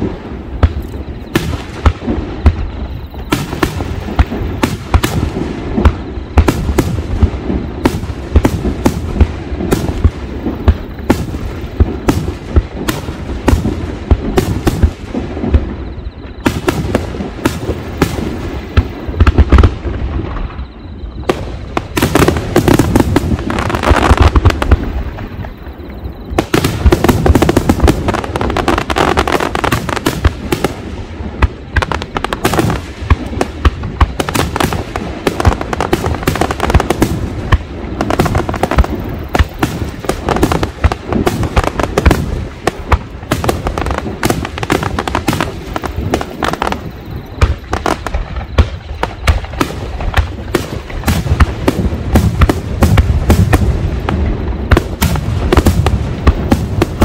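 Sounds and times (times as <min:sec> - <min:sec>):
fireworks booming: 0:00.0 - 0:57.0
fireworks crackling: 0:00.0 - 0:57.0.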